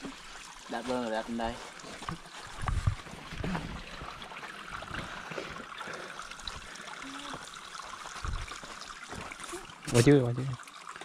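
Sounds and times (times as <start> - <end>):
creek water trickling over stones: 0.0 - 11.0.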